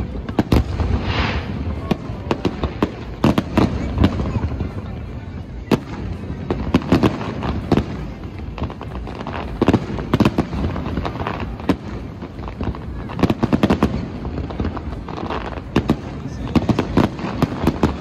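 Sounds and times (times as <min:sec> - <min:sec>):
fireworks bangs and crackles: 0:00.0 - 0:18.0
low background noise: 0:00.0 - 0:18.0.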